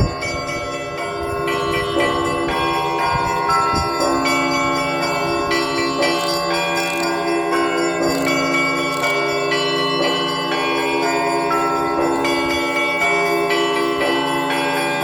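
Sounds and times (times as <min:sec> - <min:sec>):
small bells ringing: 0:00.0 - 0:15.0.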